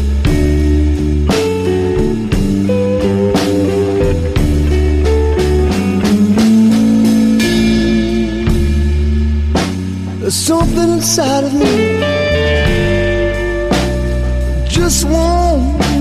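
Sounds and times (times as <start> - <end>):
bending guitar notes: 0.0 - 16.0
blues-rock music: 0.0 - 16.0.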